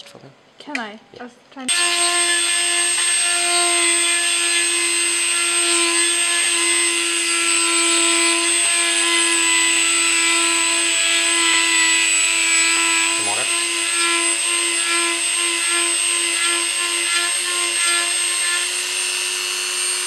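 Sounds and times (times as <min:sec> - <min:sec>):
rotary tool whining while grinding: 0:01.7 - 0:20.0.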